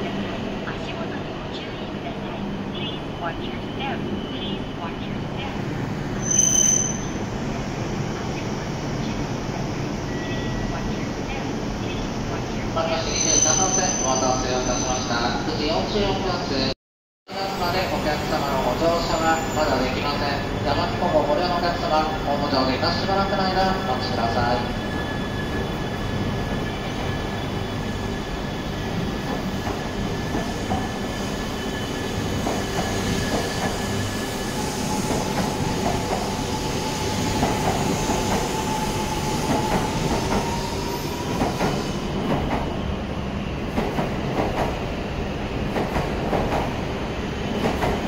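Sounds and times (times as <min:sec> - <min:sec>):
train running slowly: 0:00.0 - 0:14.0, 0:17.5 - 0:48.0.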